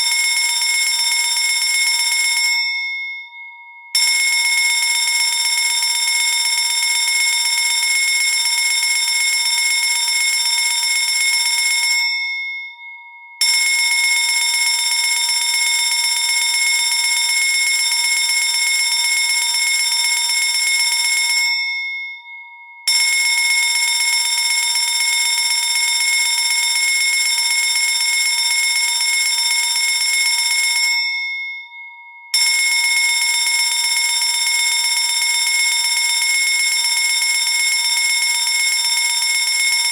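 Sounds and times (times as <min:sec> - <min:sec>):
fire alarm bell ringing: 0:00.0 - 0:39.9.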